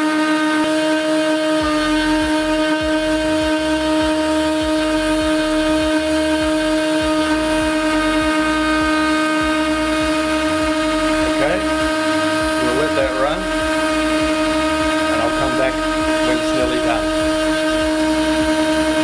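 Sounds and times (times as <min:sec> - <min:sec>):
spindle whine: 0:00.0 - 0:19.0.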